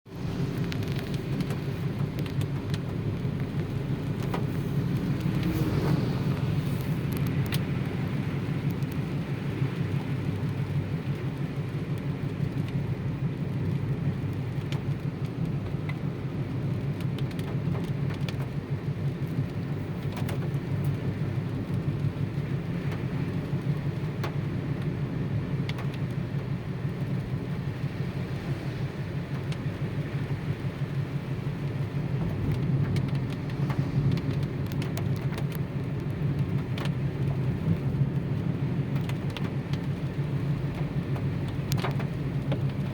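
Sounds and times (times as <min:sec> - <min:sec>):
car engine and tyres rumbling: 0:00.0 - 0:42.9
light ticks: 0:00.6 - 0:05.6, 0:06.3 - 0:08.0, 0:08.6 - 0:11.2, 0:11.9 - 0:12.8, 0:13.6 - 0:16.0, 0:16.9 - 0:25.0, 0:25.6 - 0:27.5, 0:29.3 - 0:29.8, 0:31.7 - 0:42.9.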